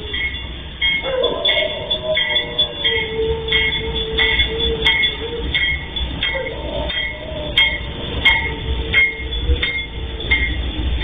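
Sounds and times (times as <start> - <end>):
diesel engine rumble: 0.0 - 11.0
faint held squeal: 0.0 - 11.0
steel wheels on rails: 0.0 - 11.0.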